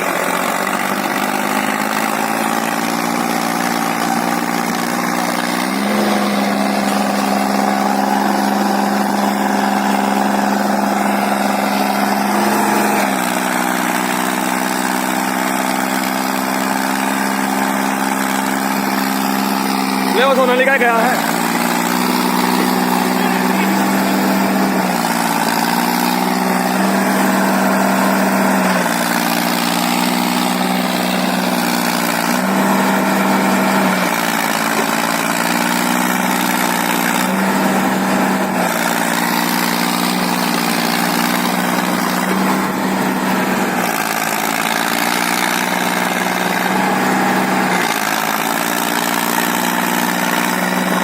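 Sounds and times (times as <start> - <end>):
tractor engines straining: 0.0 - 51.0.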